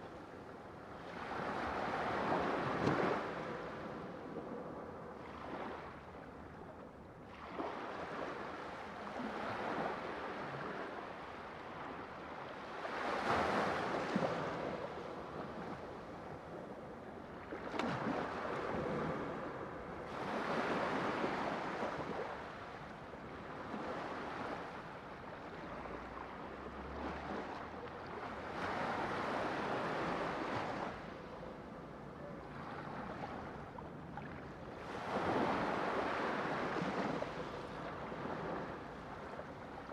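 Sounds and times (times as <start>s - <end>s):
ocean waves washing ashore: 7.3s - 39.9s.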